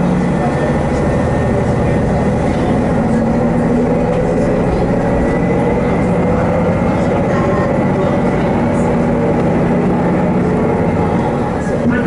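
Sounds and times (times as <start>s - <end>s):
diesel engine drone: 0.0s - 12.0s
wheels running on rail: 0.0s - 12.0s.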